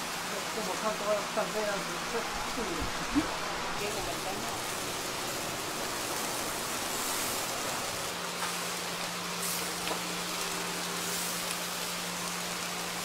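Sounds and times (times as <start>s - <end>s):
chickens sizzling on spits: 0.0s - 13.0s.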